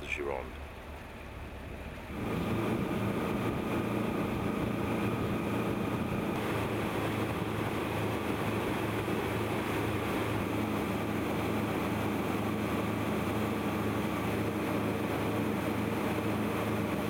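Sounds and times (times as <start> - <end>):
boat engine hum: 0.0 - 17.0
water rushing along hull: 0.0 - 17.0.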